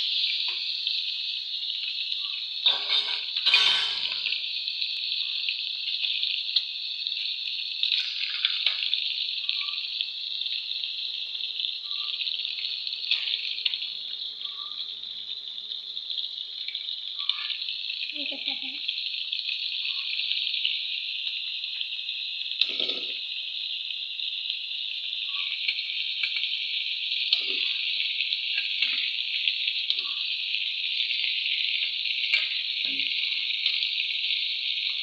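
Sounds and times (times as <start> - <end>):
fish sizzling in oil: 0.0 - 35.0.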